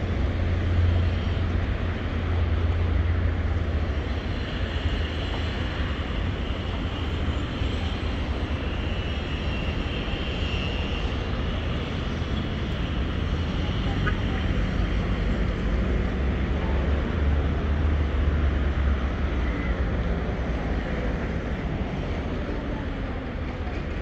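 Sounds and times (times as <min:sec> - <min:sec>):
low rumble of street noise: 0:00.0 - 0:24.0.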